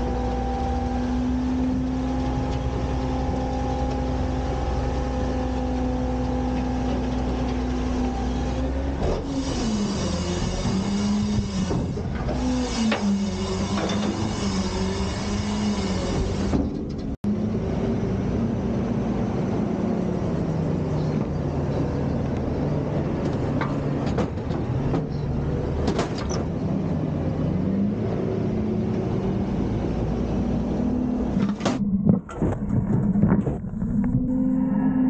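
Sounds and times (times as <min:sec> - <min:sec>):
garbage truck engine running: 0:00.0 - 0:34.5.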